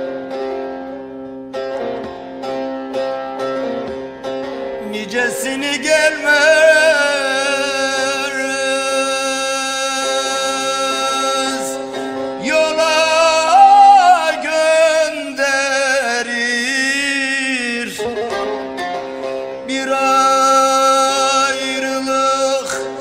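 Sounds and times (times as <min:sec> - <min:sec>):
folk music with vibrato notes: 0:00.0 - 0:23.0.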